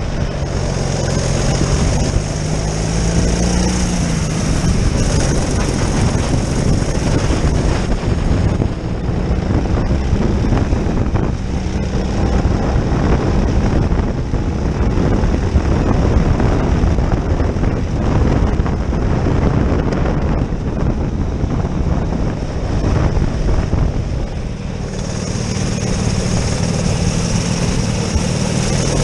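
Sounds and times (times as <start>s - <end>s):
kart engine running: 0.0s - 29.0s
wind noise on microphone: 0.0s - 29.0s.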